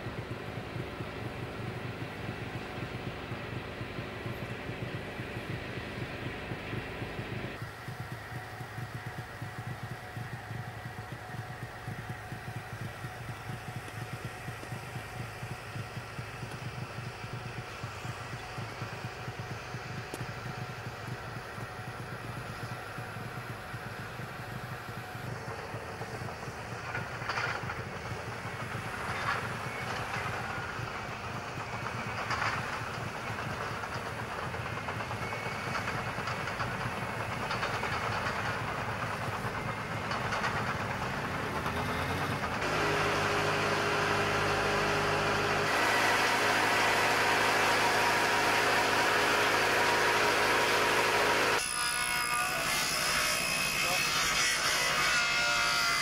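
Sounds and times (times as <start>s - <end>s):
bulldozer engine working: 0.0s - 51.6s
diesel generator drone: 0.0s - 51.7s.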